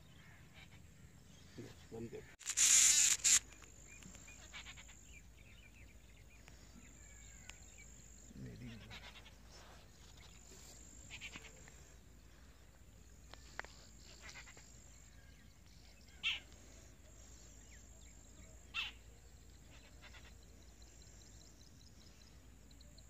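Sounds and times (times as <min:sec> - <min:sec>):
distant animal calls: 0:00.0 - 0:05.5, 0:06.4 - 0:12.1, 0:13.3 - 0:21.2.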